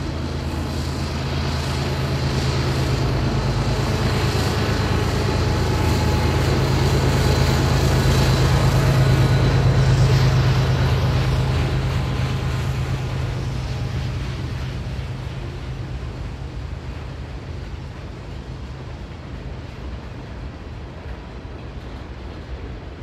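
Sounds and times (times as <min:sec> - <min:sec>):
diesel locomotive engine drone: 0:00.0 - 0:23.0
freight cars rolling over bridge: 0:00.0 - 0:23.0.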